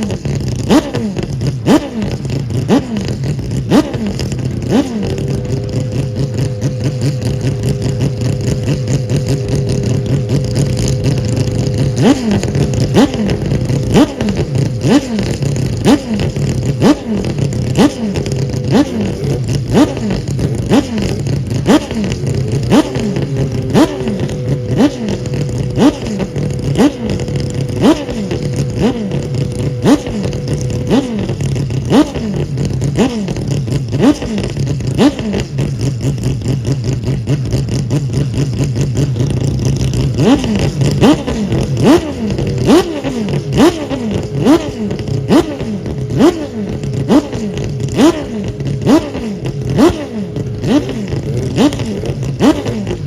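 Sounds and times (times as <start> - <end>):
rotary engine revving: 0.0 - 53.0.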